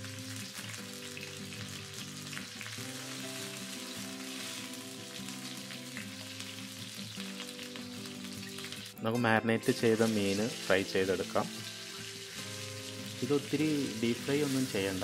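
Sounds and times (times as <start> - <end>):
background music: 0.0 - 15.0
leaves sizzling in oil: 0.0 - 15.0.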